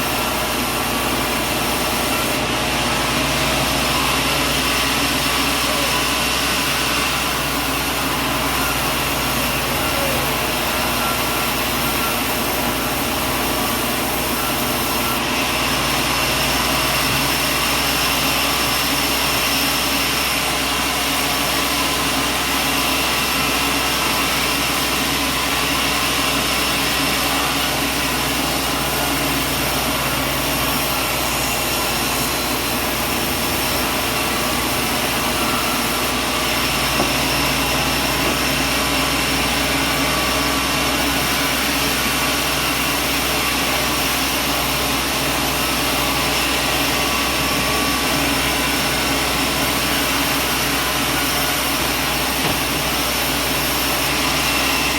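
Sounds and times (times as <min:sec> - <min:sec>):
machinery drone with high whine: 0:00.0 - 0:54.9.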